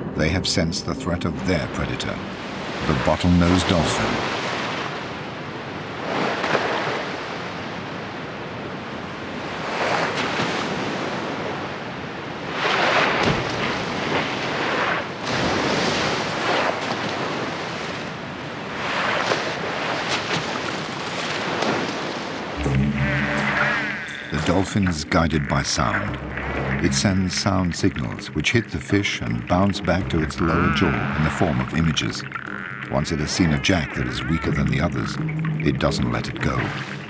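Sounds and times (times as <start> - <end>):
ocean waves splashing: 0.0 - 37.0
wind: 0.0 - 37.0.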